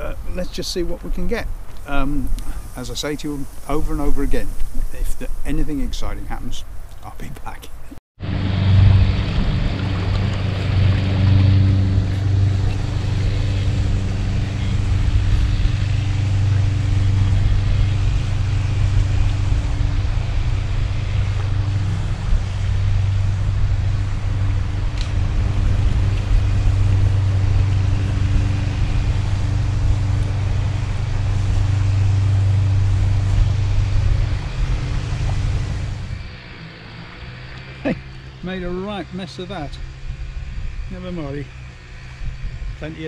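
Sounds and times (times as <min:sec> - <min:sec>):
water noise: 0:00.0 - 0:43.0
wind: 0:00.0 - 0:43.0
small boat motor running: 0:08.2 - 0:43.0.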